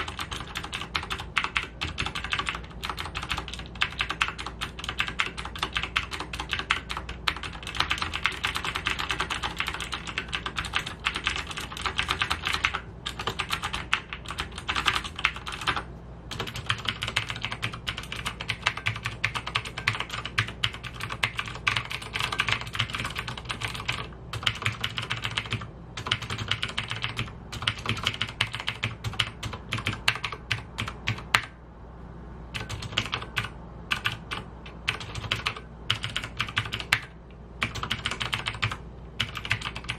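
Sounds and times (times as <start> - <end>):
clicky mechanical keyboard typing: 0.0 - 31.6, 32.6 - 39.9.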